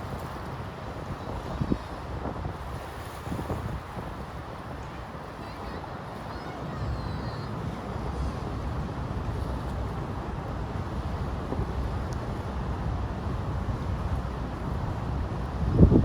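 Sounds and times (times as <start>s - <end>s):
wind rumbling on microphone: 0.0s - 10.2s, 10.8s - 16.0s.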